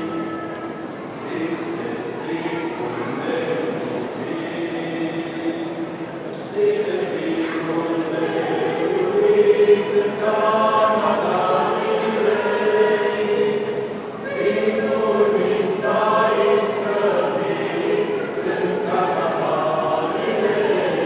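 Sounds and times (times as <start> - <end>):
mixed choir singing a carol: 0.0 - 21.0.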